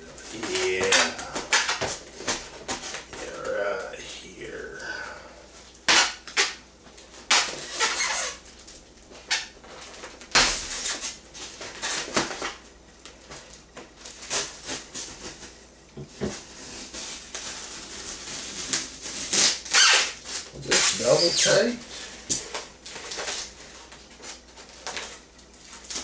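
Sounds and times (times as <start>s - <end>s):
styrofoam squeaking and creaking: 0.0s - 3.9s, 5.9s - 12.6s, 14.0s - 15.5s, 16.3s - 26.0s.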